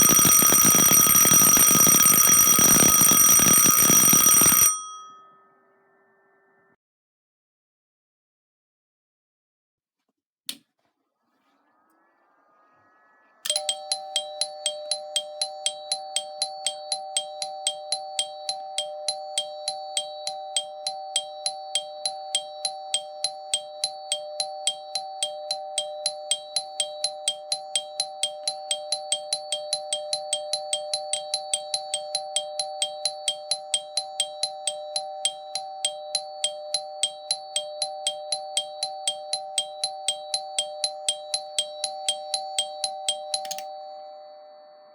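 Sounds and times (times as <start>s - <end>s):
alarm bell ringing continuously: 0.0s - 5.8s, 13.5s - 44.9s.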